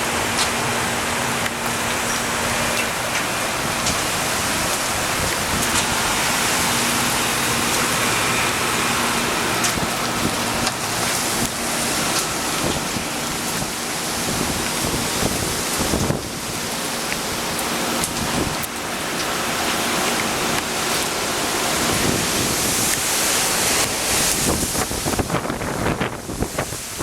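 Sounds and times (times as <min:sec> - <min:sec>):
strong storm wind blowing: 0:00.0 - 0:18.7, 0:21.5 - 0:27.0.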